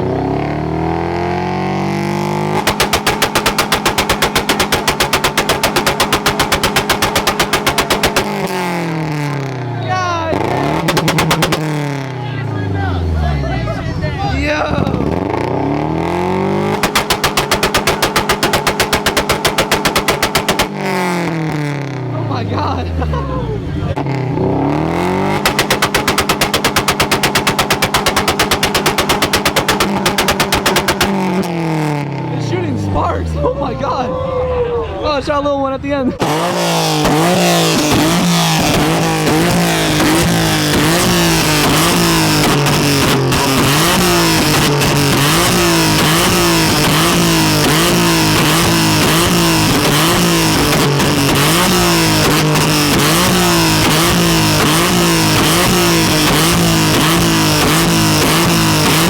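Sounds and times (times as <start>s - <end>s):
car engine revving and popping: 0.0s - 34.1s, 35.2s - 59.0s.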